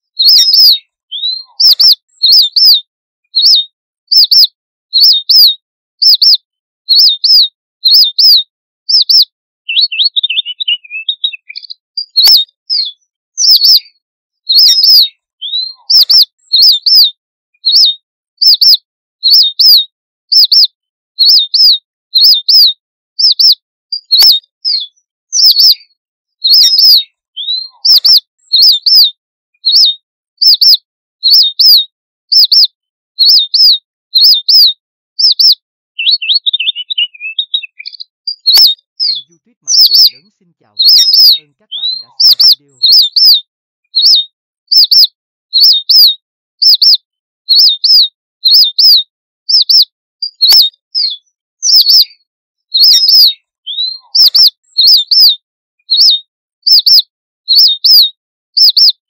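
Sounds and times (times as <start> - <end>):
bird high chirps: 0.0 - 59.0
bird jumbled twitter: 0.0 - 59.0.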